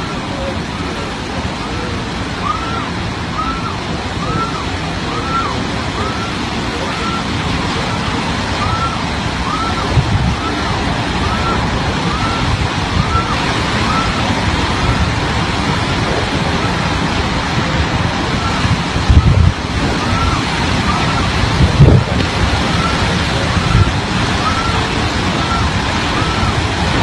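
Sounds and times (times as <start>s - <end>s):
wind and rain rushing: 0.0s - 27.0s
wind gusts thumping microphone: 0.0s - 27.0s.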